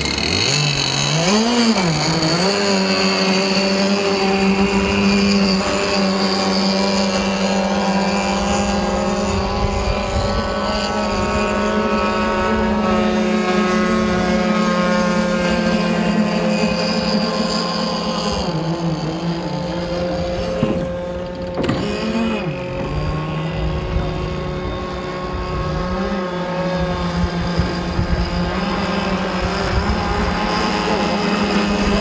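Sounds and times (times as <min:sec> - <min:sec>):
model boat engine running: 0:00.0 - 0:32.0.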